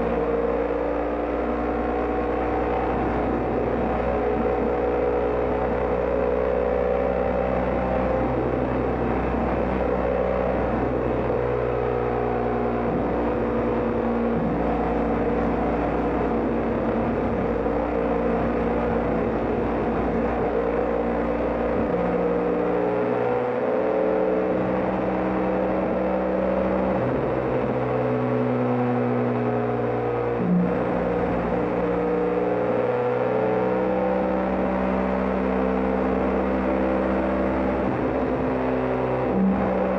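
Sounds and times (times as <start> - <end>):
motorcycle engine at road speed: 0.0 - 39.9.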